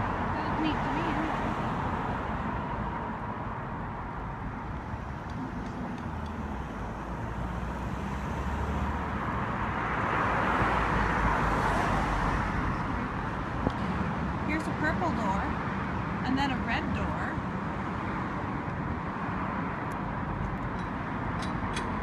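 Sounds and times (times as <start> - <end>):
cars driving past: 0.0 - 22.0.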